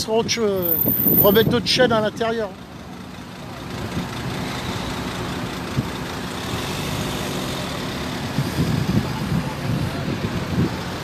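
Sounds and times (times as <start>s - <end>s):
car engines idling: 0.6s - 11.0s.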